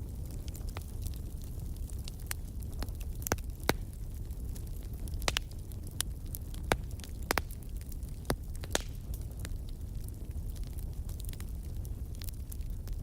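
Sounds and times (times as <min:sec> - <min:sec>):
log fire crackling: 0:00.0 - 0:13.0.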